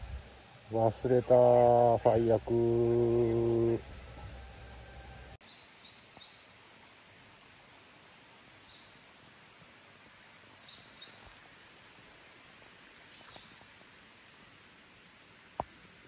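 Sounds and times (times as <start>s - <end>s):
high insect hum: 0.0s - 16.0s.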